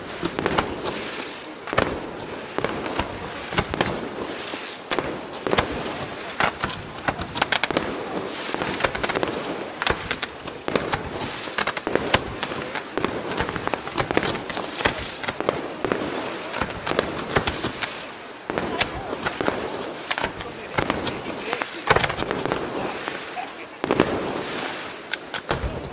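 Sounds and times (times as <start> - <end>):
continuous rushing noise: 0.0 - 25.9
fireworks bangs: 0.0 - 25.9.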